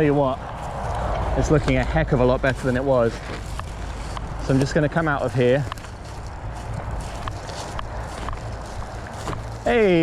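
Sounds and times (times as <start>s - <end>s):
footsteps crunching through undergrowth: 0.0s - 10.0s
low rumble of road traffic: 0.0s - 10.0s.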